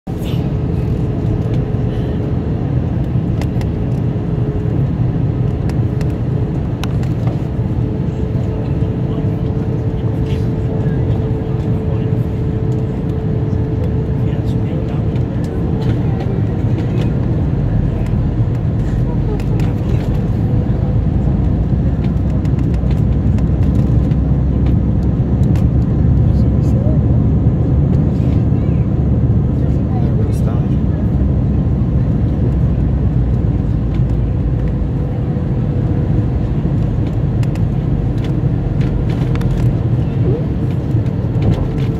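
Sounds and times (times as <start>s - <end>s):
aircraft cabin engine rumble: 0.0s - 41.9s
airflow over airframe: 0.0s - 41.9s.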